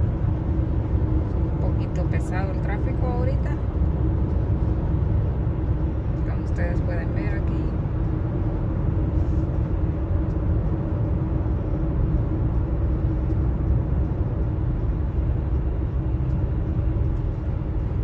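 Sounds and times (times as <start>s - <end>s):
car tyres and engine rumble: 0.0s - 18.0s.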